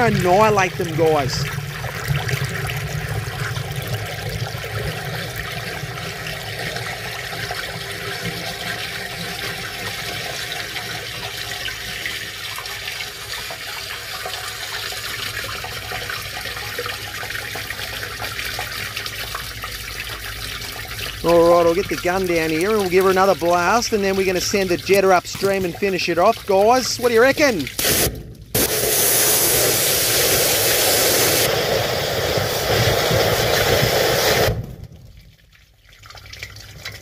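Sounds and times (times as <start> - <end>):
sewage running through pipe: 0.0 - 34.7.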